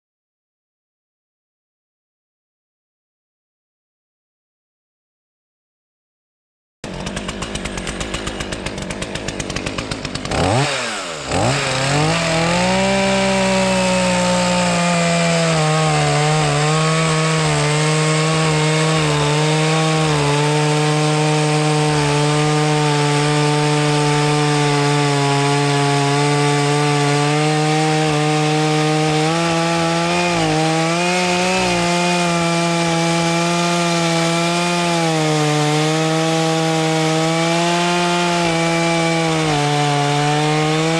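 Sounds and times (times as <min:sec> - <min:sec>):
chainsaw cutting wood: 0:06.8 - 0:40.9.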